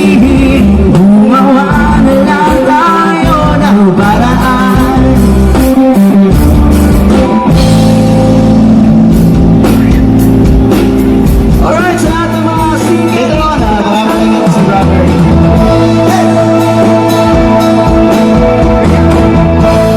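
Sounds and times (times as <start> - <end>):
person singing: 0.0 - 8.0, 11.6 - 19.9
pop-rock band playing: 0.0 - 19.9.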